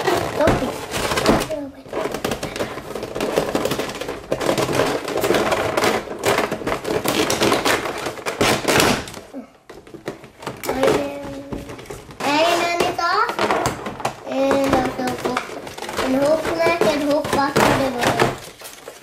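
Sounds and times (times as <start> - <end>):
cardboard and plastic rustling: 0.0 - 19.0.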